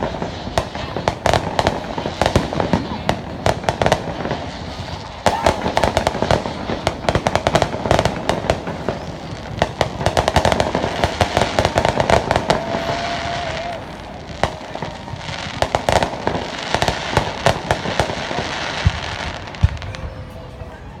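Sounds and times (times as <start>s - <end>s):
deep fireworks booms: 0.0s - 21.0s
fireworks cracking and crackling: 0.0s - 21.0s.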